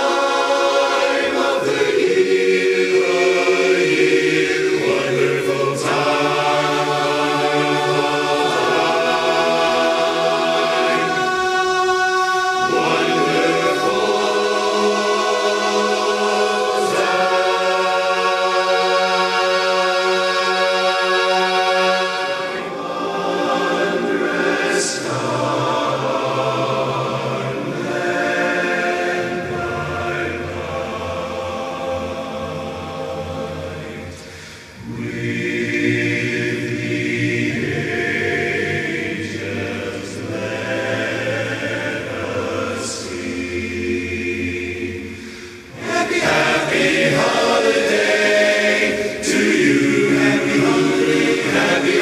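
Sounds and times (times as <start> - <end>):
men's chorus singing a cappella: 0.0 - 52.0.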